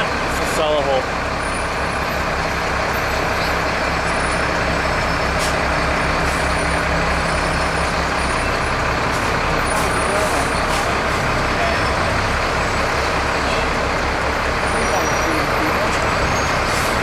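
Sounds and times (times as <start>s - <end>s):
low engine drone: 0.0s - 17.0s
road and cab noise: 0.0s - 17.0s.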